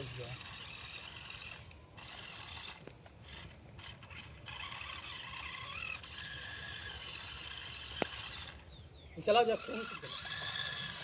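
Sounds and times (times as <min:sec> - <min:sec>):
toy truck motor whining: 0:00.0 - 0:08.7, 0:09.3 - 0:11.0.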